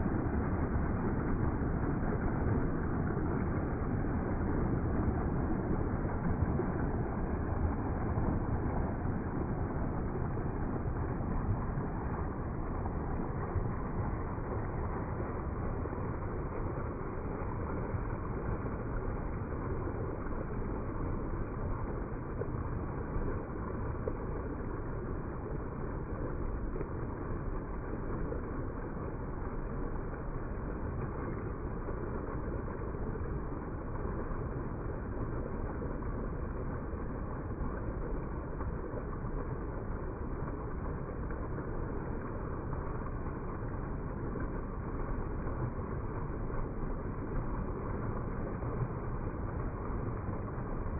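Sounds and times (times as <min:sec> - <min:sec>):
stream running over stones: 0:00.0 - 0:50.9.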